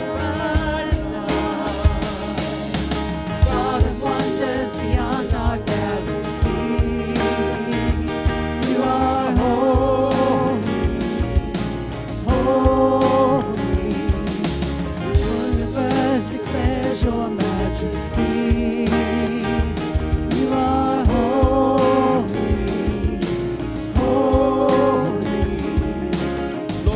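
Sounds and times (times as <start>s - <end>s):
voices singing held notes: 0.0s - 2.8s, 3.4s - 26.9s
steady drum beat: 0.0s - 26.9s
worship band playing: 0.0s - 26.9s.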